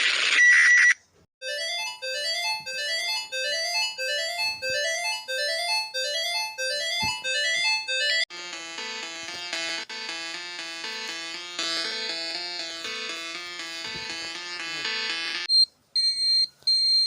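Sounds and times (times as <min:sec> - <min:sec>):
electric piano tune: 0:01.5 - 0:15.5.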